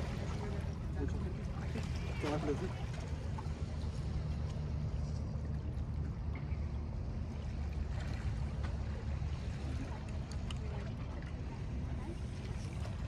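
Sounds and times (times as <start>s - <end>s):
waves lapping against rocks: 0.0s - 6.4s, 7.1s - 13.0s.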